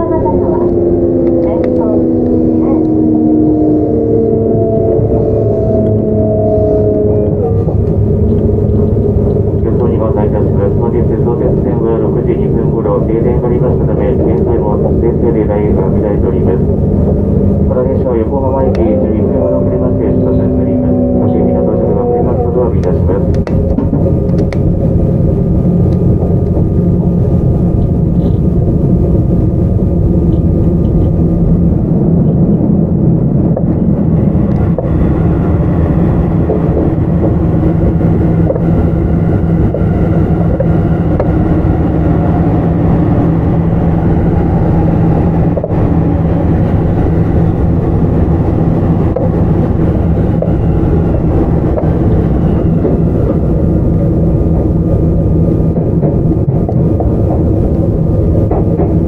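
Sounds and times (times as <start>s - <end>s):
electric train motor hum: 0.0s - 59.0s
train rolling on tracks: 0.0s - 59.0s.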